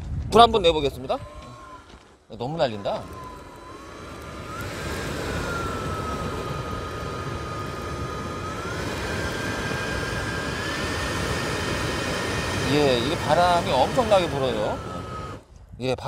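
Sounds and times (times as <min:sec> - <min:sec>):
electric blower whining: 0:00.4 - 0:15.6.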